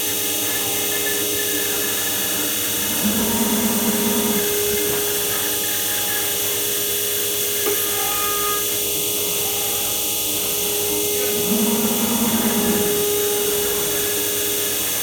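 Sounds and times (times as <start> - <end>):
constant machine hum: 0.0 - 15.0
machine spindle whine: 0.0 - 15.0.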